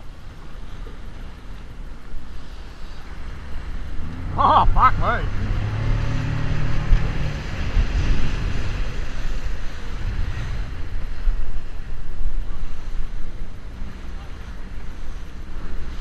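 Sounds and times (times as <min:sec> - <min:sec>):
rush of wind and water: 0:00.0 - 0:16.0
wind buffeting microphone: 0:00.0 - 0:16.0.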